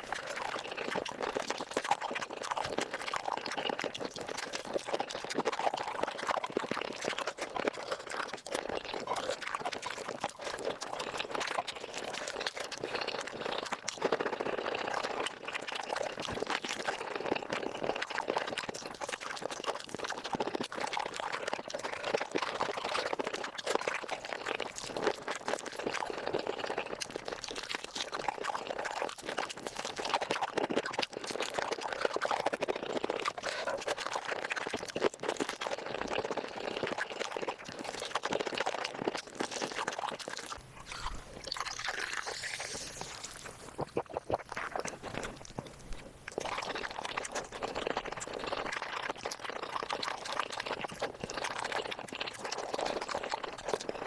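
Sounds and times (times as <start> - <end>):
sped-up chewing and slurping: 0.0 - 54.0.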